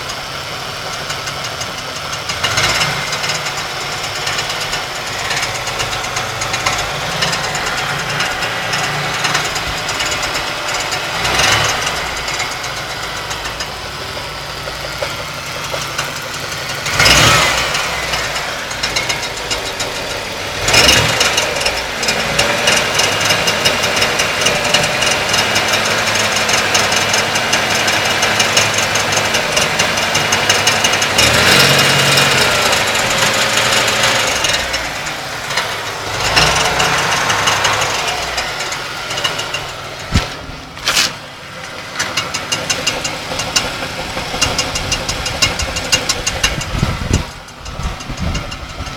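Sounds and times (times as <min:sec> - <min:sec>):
car engine grinding and clattering: 0:00.0 - 0:48.9.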